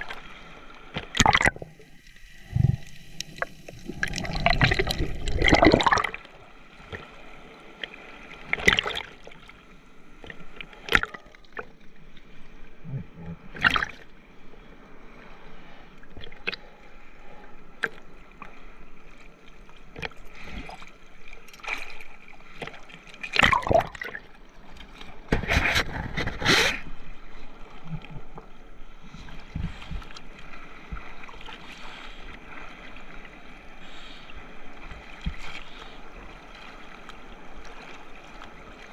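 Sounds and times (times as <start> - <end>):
sea water sloshing: 0.0 - 38.9.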